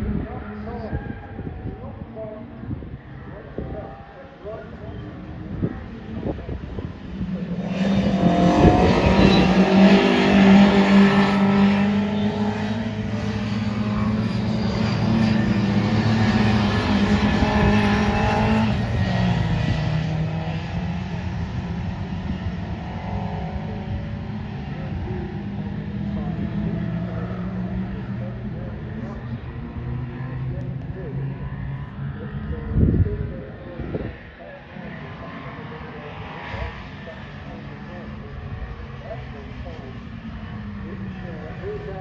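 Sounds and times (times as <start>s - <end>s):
racing car engines: 0.0s - 42.0s.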